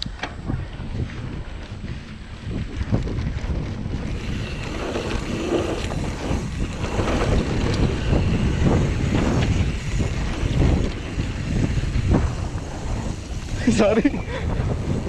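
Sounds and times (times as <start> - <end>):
bike knocking and rattling: 0.0 - 15.0
bike rumbling on trail: 0.0 - 15.0
wind on microphone: 0.0 - 15.0.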